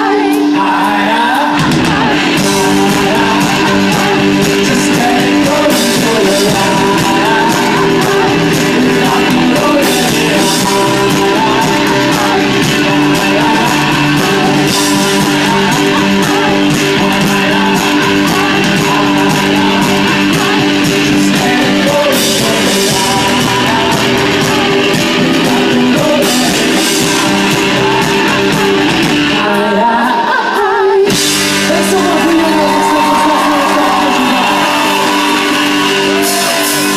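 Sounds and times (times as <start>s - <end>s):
bass guitar: 0.0s - 36.9s
drums: 0.0s - 36.9s
electric guitars: 0.0s - 36.9s
man singing lead: 0.0s - 36.9s.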